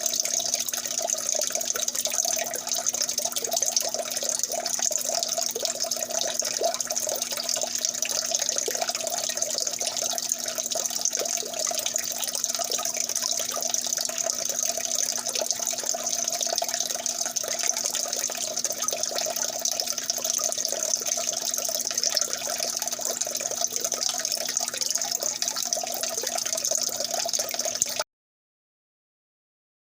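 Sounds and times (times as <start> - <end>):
water running: 0.0 - 28.0.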